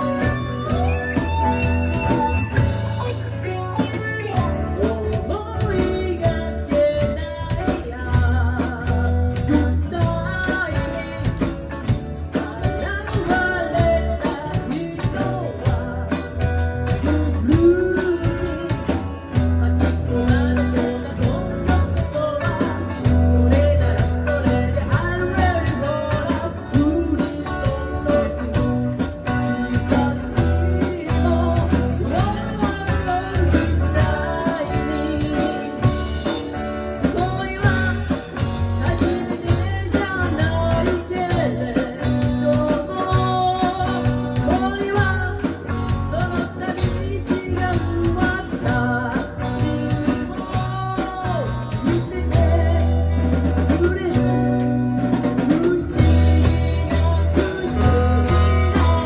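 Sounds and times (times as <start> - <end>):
sliding guitar melody: 0.0 - 50.4, 51.1 - 59.0
live blues rock band: 0.0 - 59.0.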